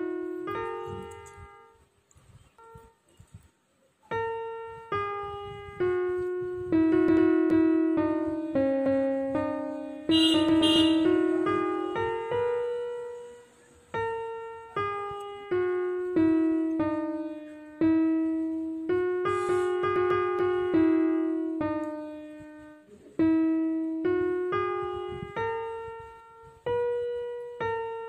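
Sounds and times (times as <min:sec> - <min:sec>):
slow piano melody: 0:00.0 - 0:28.0.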